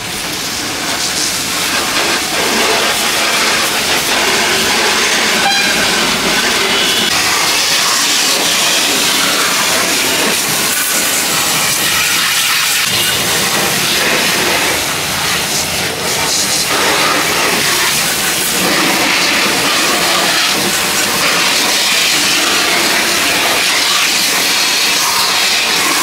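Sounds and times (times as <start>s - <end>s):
pressure washer spraying water: 0.0s - 26.0s.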